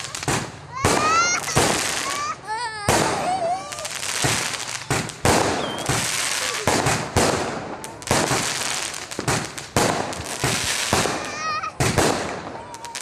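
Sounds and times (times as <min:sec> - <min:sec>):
crackling hiss of fireworks: 0:00.0 - 0:13.0
fireworks bangs: 0:00.0 - 0:13.0.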